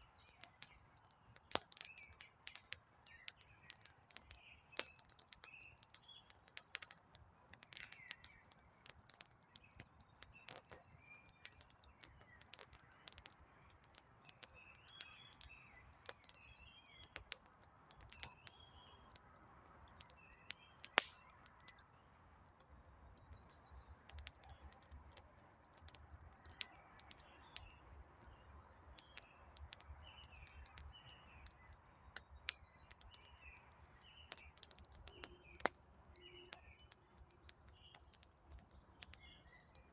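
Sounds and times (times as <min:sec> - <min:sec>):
campfire crackling and popping: 0:00.0 - 0:39.9
small birds chirping: 0:00.0 - 0:39.9.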